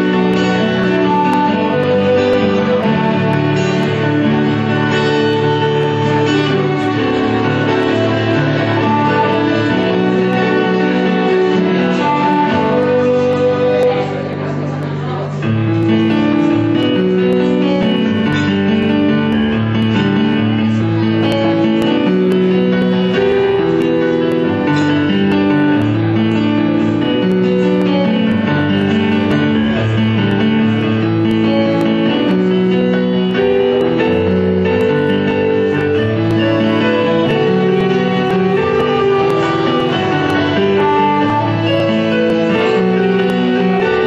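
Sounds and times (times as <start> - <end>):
keyboard: 0.0 - 44.0
strummed acoustic guitar: 0.0 - 44.0
violin melody: 0.0 - 44.0.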